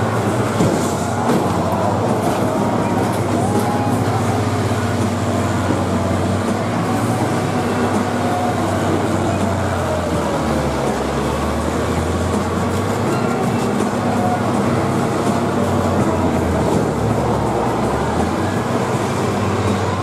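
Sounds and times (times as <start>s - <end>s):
diesel engines droning: 0.0s - 20.0s.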